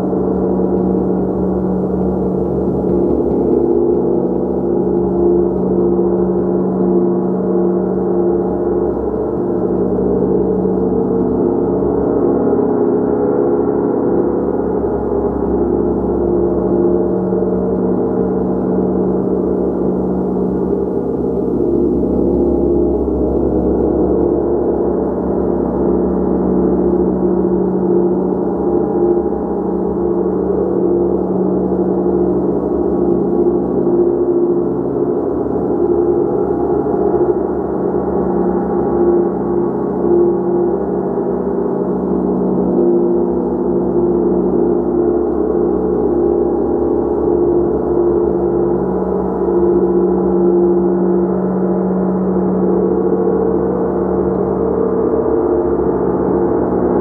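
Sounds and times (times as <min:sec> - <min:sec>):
gong deep sustained tones: 0:00.0 - 0:57.0.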